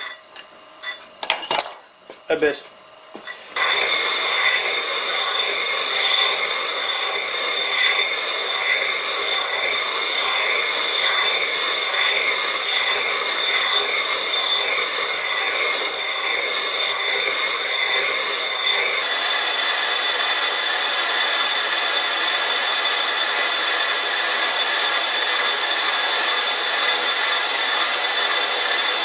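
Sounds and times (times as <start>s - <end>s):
lathe cutting metal with high whine: 3.3s - 29.0s.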